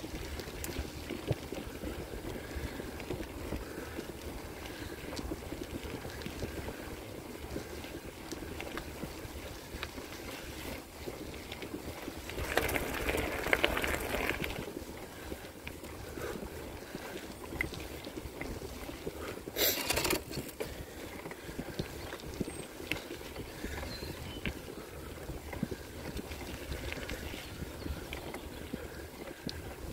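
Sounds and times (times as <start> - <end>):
bicycle tyres rolling on gravel: 0.0 - 29.9
small ticks and rattles: 0.0 - 29.9.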